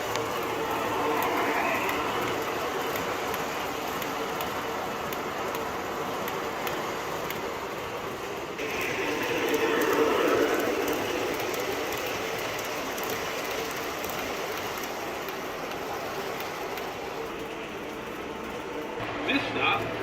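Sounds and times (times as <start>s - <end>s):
model train rail rumble: 0.0s - 20.0s.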